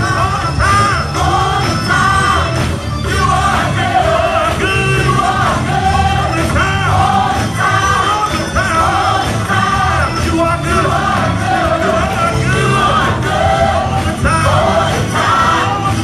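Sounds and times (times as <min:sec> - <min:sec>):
band with bass and drums: 0:00.0 - 0:16.0
congregation shouting: 0:00.0 - 0:16.0
gospel singing voices: 0:00.0 - 0:16.0.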